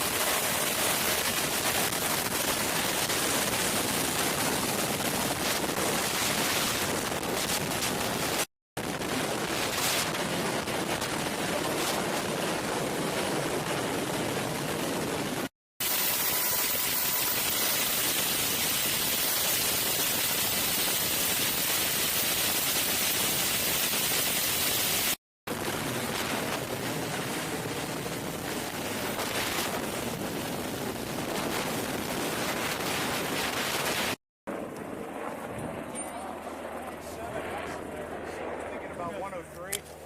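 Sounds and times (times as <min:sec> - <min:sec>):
helicopter rotor and turbine: 0:00.0 - 0:40.0.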